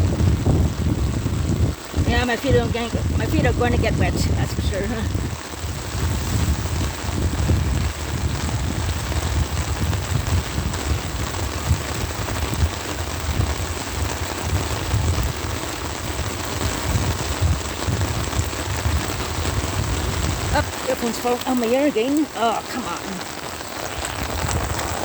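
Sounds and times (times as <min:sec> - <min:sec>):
rain pattering on an umbrella: 0:00.0 - 0:25.0.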